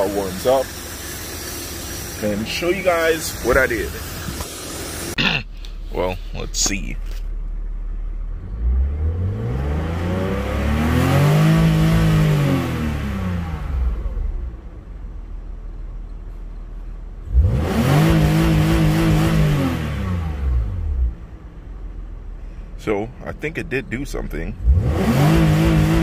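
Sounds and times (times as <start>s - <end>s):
car engine revving: 0.0s - 15.7s, 17.1s - 26.0s.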